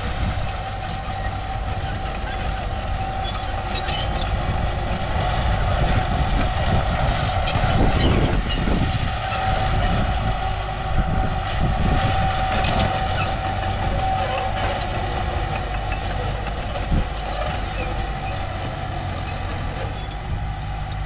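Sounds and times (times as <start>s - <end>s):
diesel engine rumble: 0.0s - 21.0s
high machinery whine: 0.0s - 21.0s.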